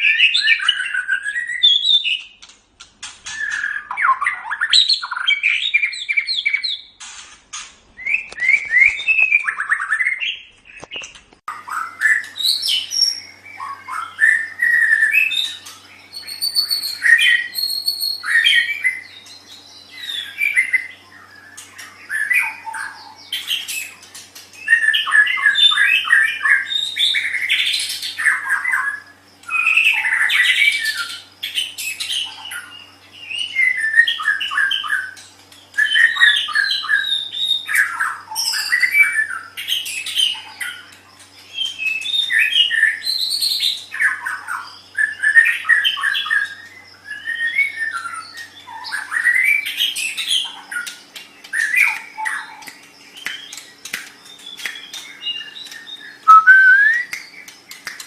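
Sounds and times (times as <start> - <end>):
bird singing whistles and trills: 0.0 - 2.4, 3.3 - 7.0, 8.0 - 58.0.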